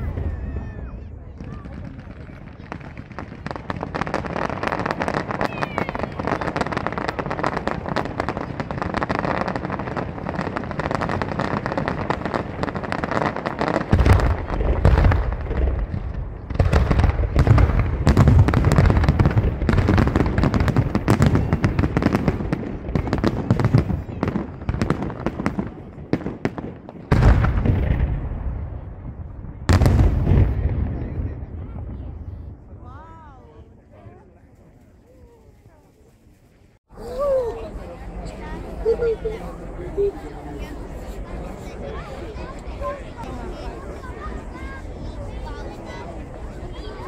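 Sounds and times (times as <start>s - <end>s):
fireworks crackling: 0.0s - 32.8s, 37.7s - 47.0s.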